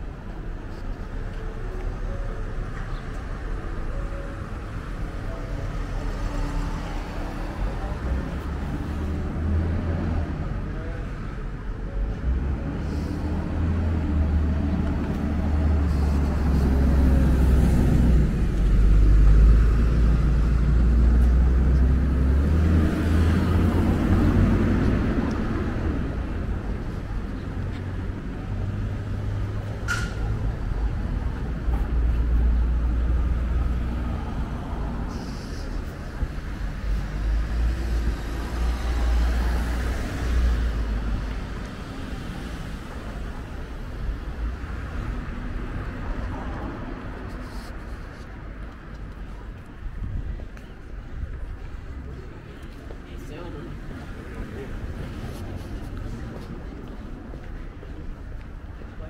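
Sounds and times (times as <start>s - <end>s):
cars passing: 0.0s - 59.0s
low traffic rumble: 0.0s - 59.0s.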